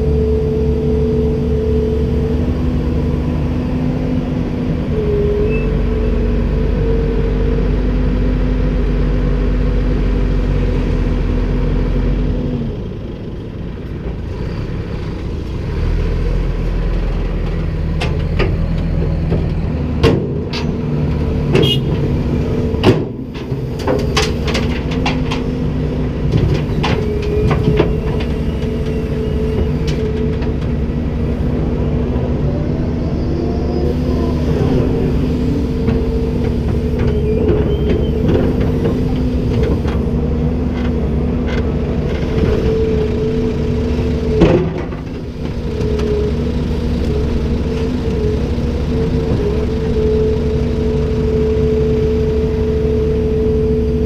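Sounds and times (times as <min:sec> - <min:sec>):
excavator engine humming: 0:00.0 - 0:54.0.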